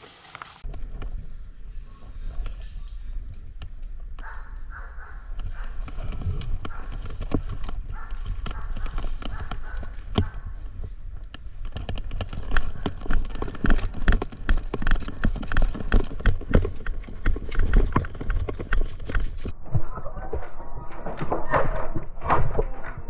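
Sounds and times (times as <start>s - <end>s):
rustling close to microphone: 0.0s - 19.6s.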